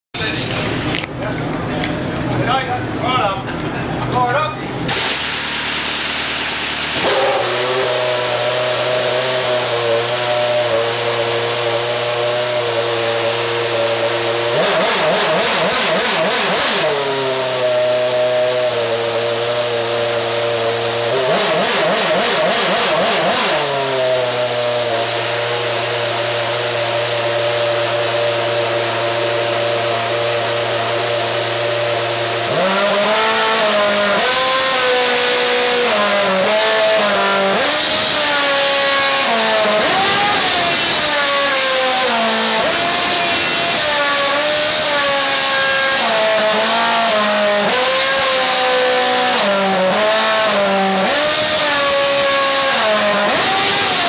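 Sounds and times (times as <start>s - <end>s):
racing car engine revving: 0.2s - 54.0s.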